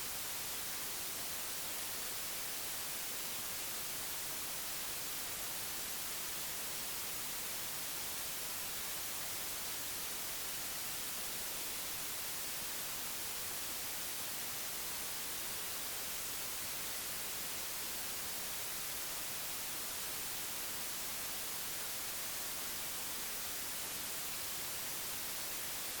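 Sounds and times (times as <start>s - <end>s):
white noise hiss: 0.0s - 26.0s.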